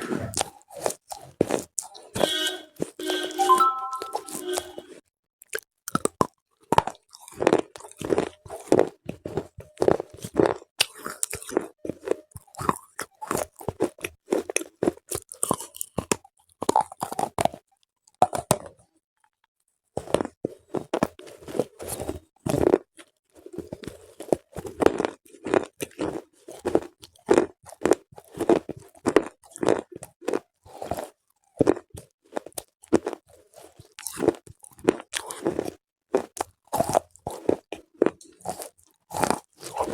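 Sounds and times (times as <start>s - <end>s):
person chewing crunchy food: 0.3s - 2.1s, 5.5s - 17.6s, 20.0s - 39.9s.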